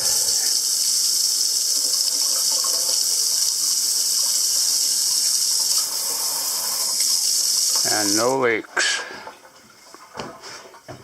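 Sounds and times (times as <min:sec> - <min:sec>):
faucet water splashing into sink: 0:00.0 - 0:11.0.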